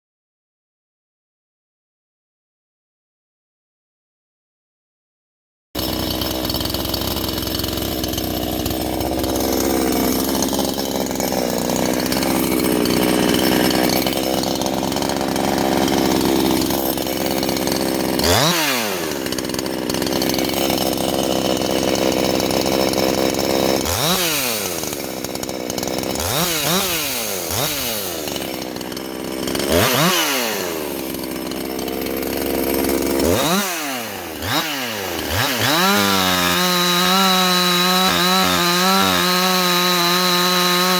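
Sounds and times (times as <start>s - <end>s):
chainsaw engine revving: 5.8s - 40.9s.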